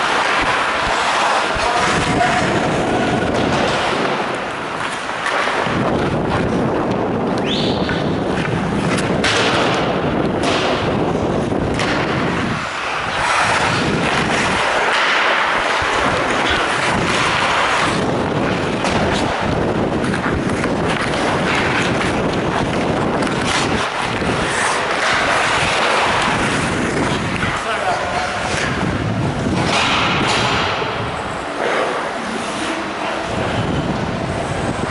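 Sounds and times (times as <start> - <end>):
skate blades scraping ice: 0.0 - 34.9
steady rushing noise: 0.0 - 34.9
sticks and puck clacking: 0.0 - 34.9.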